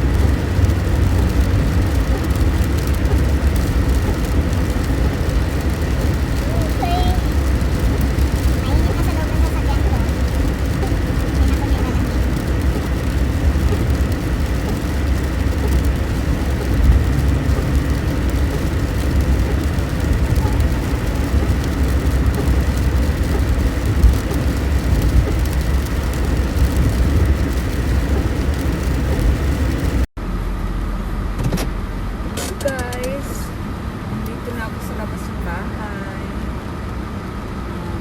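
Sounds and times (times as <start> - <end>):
car interior road and engine rumble: 0.0 - 38.0.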